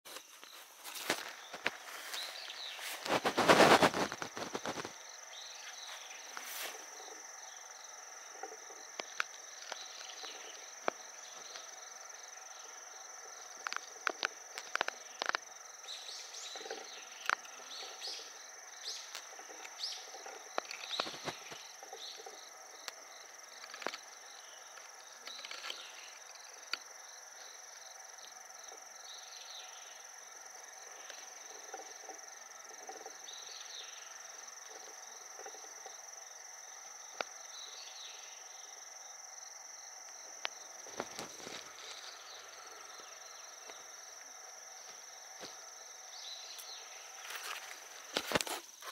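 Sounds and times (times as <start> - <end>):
crickets trilling: 0.1 - 48.9
short insect chirps: 0.1 - 48.9.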